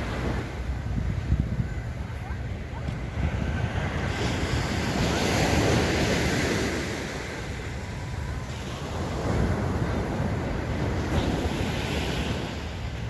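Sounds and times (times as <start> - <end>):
sea waves breaking on beach: 0.0 - 1.5, 2.2 - 13.0
wind buffeting microphone: 0.0 - 13.0.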